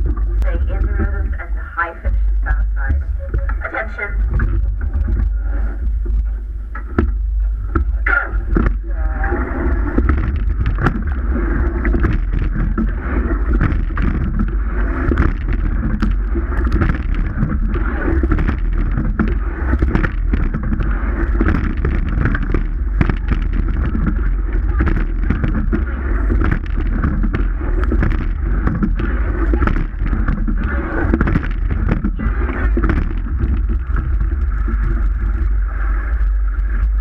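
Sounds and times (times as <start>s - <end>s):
oars knocking: 0.0s - 35.4s
water rushing along hull: 0.0s - 37.0s
wind buffeting microphone: 0.0s - 37.0s.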